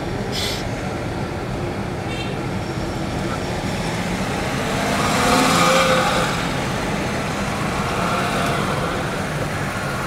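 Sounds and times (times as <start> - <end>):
traffic din: 0.0 - 10.0
vehicle engine and road noise: 0.0 - 10.0.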